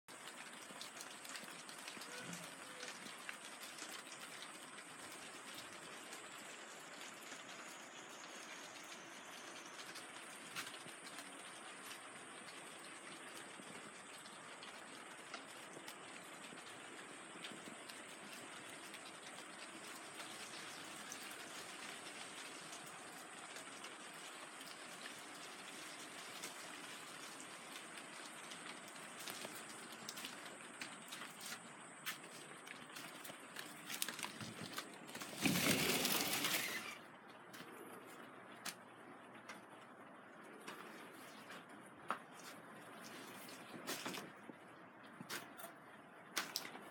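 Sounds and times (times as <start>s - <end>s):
raindrop ticks: 0.1s - 45.7s, 46.4s - 46.9s
light rain hiss: 0.1s - 46.9s.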